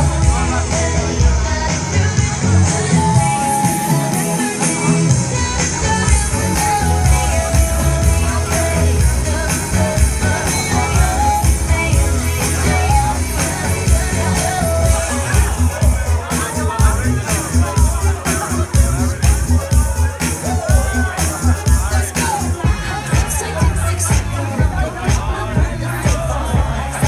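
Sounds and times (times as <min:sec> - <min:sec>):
pop-rock music with singing: 0:00.0 - 0:27.0.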